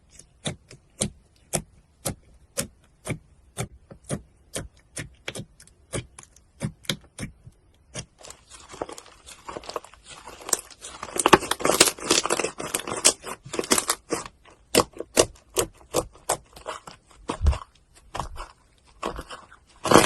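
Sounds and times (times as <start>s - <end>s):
slime crackling and popping: 0.0s - 20.0s.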